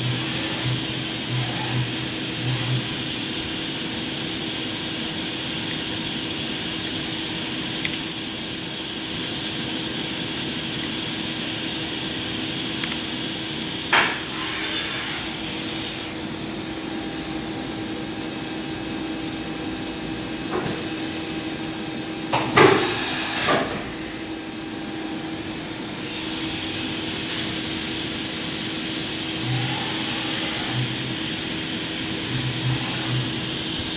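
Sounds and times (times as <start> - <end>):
machining center humming: 0.0 - 33.9.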